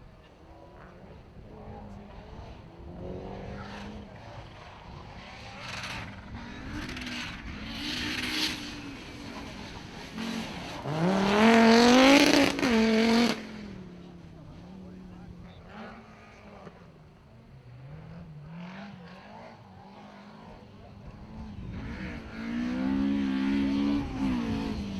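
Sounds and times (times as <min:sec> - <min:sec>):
rally car engine accelerating: 0:00.0 - 0:24.9.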